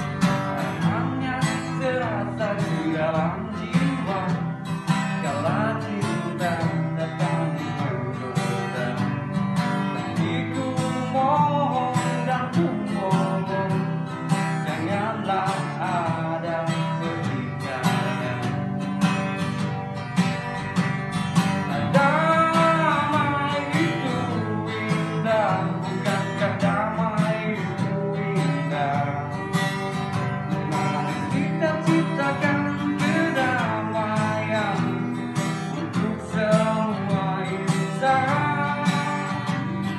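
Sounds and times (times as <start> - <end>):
man singing: 0.0 - 19.8, 20.4 - 39.9
acoustic guitar strumming: 0.0 - 39.9.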